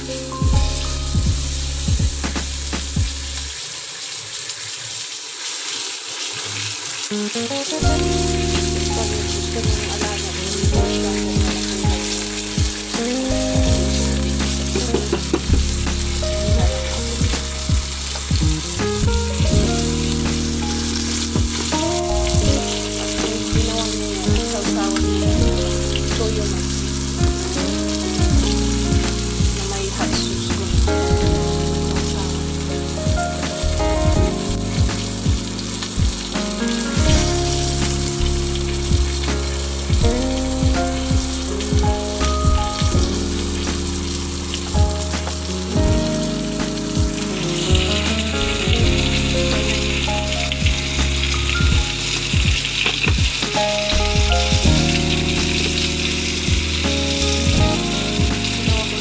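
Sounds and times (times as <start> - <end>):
fish sizzling in a pan: 0.7 - 19.0, 19.7 - 30.8, 31.4 - 33.0, 34.4 - 59.0.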